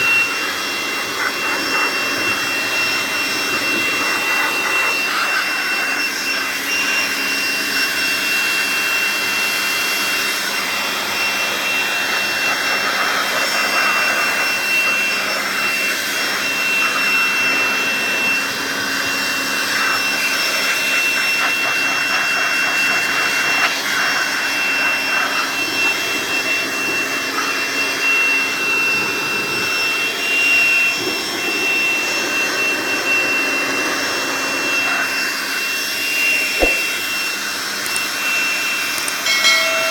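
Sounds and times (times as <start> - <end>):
electric air blower whining: 0.0 - 39.9.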